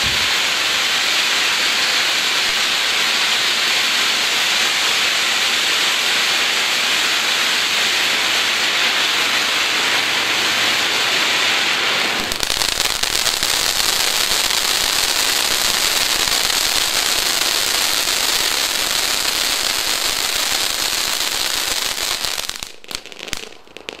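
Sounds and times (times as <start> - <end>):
firework crackling: 0.0 - 24.0
firework fountain hissing: 0.0 - 24.0.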